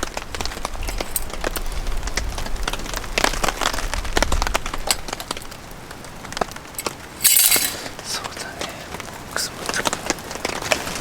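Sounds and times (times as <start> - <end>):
low wind rumble: 0.0 - 9.4
rain drops tapping: 0.0 - 11.0.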